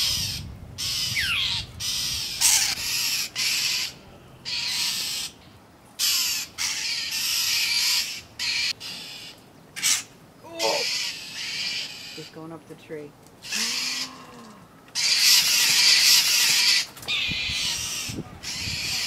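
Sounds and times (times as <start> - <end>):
birds scolding with raspy calls: 0.0 - 19.0.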